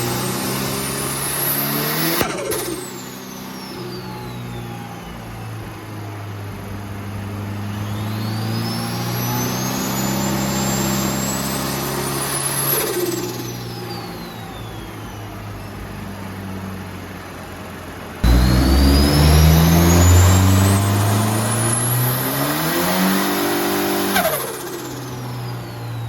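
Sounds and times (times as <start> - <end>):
turbo whine: 0.0 - 16.8, 18.2 - 26.0
engine running under load: 0.0 - 26.0.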